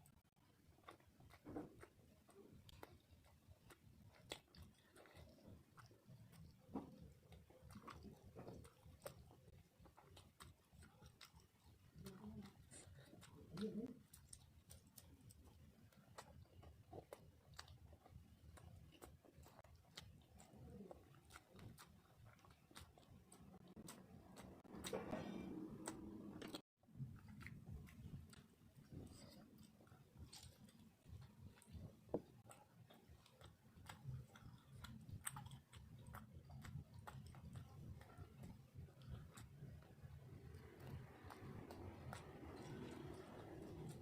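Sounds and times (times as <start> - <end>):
chewing: 0.0 - 44.0.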